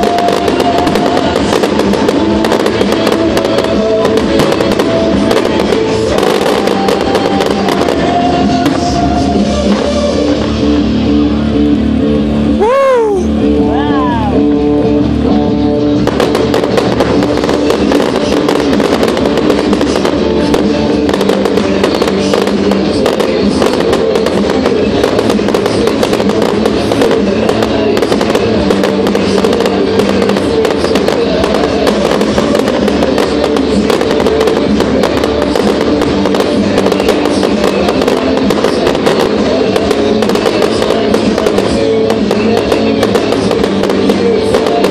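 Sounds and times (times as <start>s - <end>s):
fireworks bangs and crackles: 0.0s - 44.9s
loud music: 0.0s - 44.9s.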